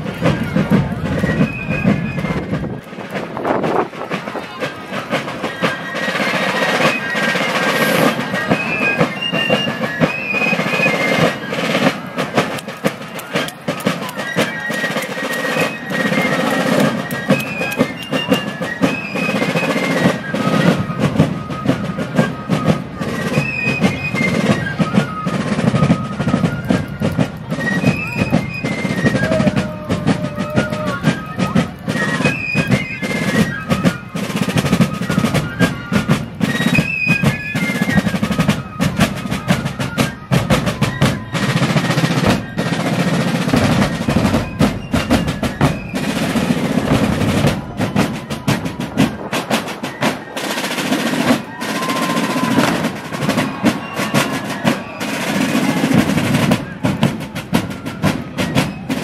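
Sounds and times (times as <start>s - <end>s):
snare and bass drums: 0.0s - 59.0s.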